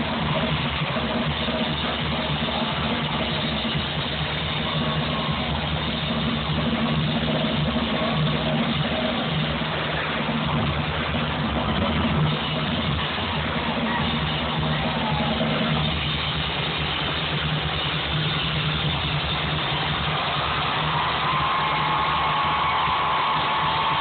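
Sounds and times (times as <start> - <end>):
distant rapid rock drumming: 0.0 - 24.0.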